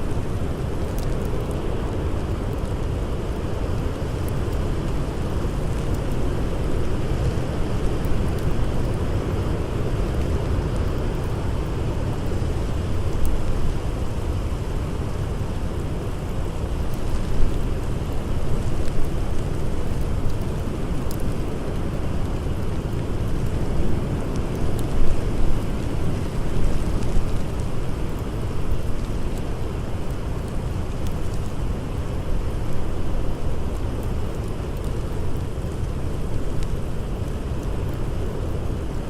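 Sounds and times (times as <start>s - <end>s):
blizzard wind blowing: 0.0s - 39.0s
campfire crackling and popping: 0.0s - 39.0s.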